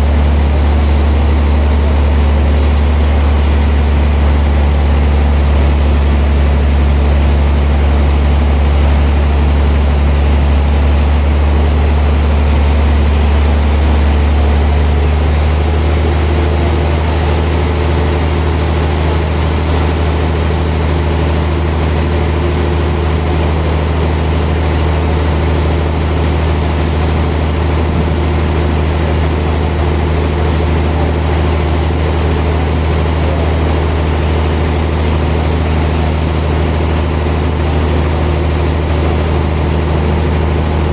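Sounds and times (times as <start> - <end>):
sawmill machinery motor hum: 0.0 - 40.9.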